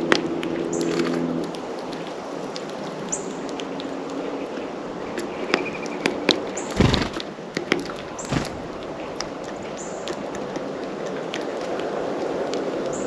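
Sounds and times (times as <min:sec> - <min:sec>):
birds pecking taps and clicks: 0:00.0 - 0:13.0.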